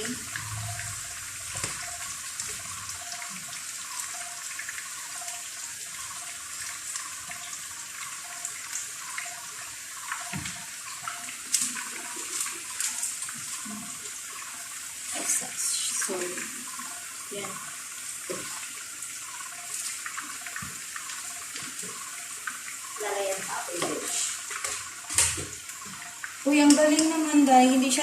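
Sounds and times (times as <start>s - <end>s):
liquid sizzling in a frying pan: 0.0s - 28.0s.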